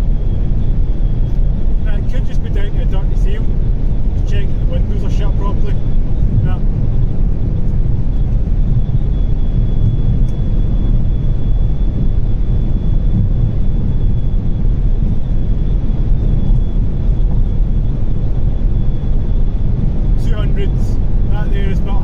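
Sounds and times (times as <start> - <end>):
wind and road noise in car: 0.0 - 22.0.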